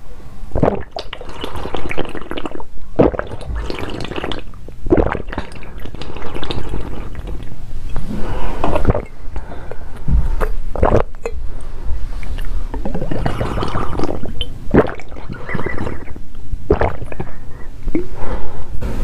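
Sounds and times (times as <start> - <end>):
gulping and swallowing liquid: 0.5 - 18.1
wet mouth sounds: 0.5 - 18.2.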